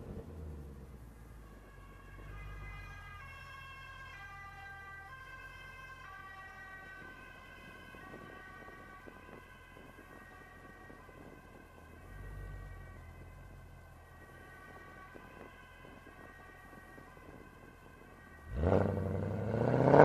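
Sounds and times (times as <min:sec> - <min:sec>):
distant police sirens: 0:00.0 - 0:20.0.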